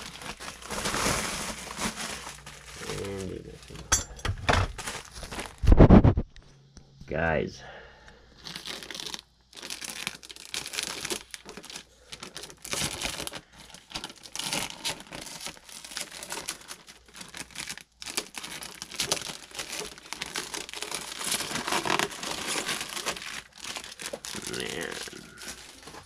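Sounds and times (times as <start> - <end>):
packaging crinkling and tearing: 0.0 - 3.9, 4.6 - 6.2, 8.4 - 26.0.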